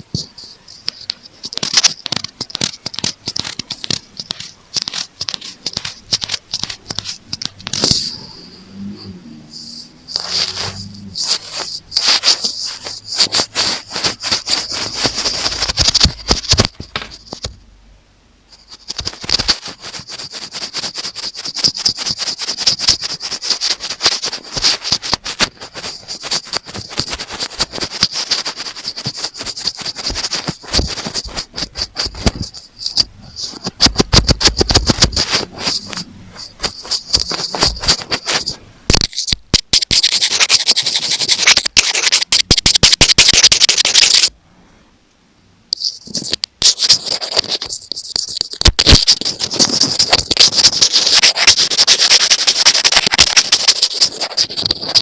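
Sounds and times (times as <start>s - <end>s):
scratching and tapping on microphone: 0.0s - 8.3s, 9.0s - 17.6s, 18.5s - 44.3s, 45.7s - 55.0s.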